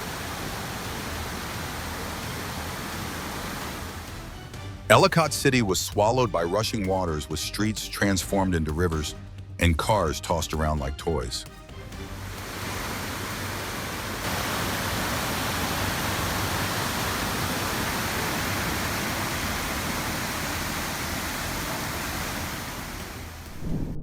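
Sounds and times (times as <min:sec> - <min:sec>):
floodwater rushing: 0:00.0 - 0:23.8.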